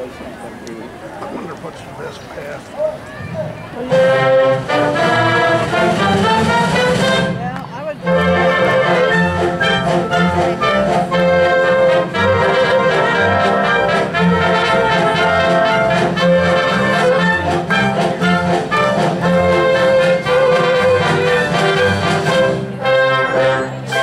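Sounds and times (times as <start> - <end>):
orchestra with brass: 2.9 - 24.0.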